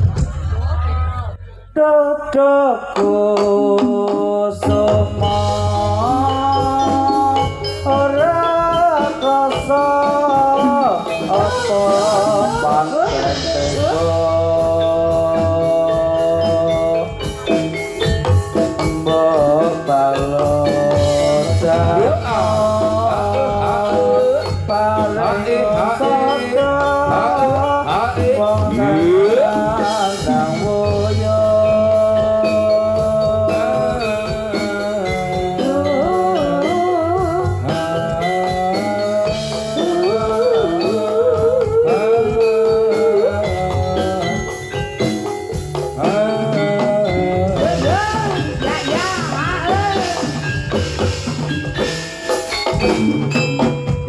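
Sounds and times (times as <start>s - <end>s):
drum and bass beat: 0.0s - 1.4s, 3.0s - 54.0s
gamelan ensemble playing: 3.4s - 54.0s.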